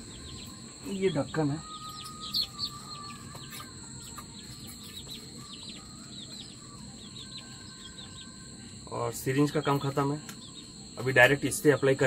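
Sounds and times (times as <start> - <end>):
chicks peeping: 0.0 - 12.0
crickets droning: 0.0 - 12.0.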